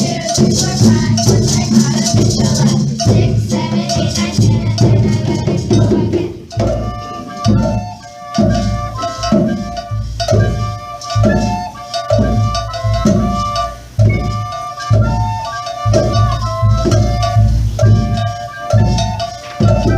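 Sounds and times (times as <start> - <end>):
steady drum beat: 0.0 - 19.9
struck pitched percussion notes: 0.0 - 19.9.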